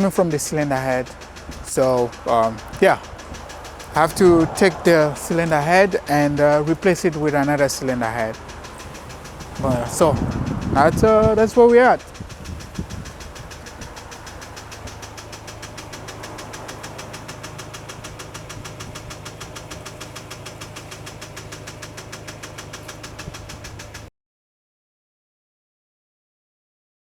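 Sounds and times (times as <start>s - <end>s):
car engine idling: 0.0s - 24.1s
rapid even ticking: 0.0s - 24.1s.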